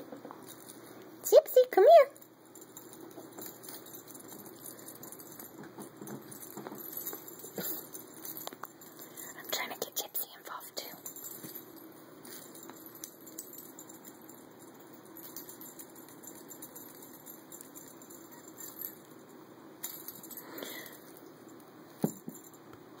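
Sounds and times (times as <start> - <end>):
collar tag jingling faintly: 0.2 - 22.7
steady low hum: 2.1 - 23.0.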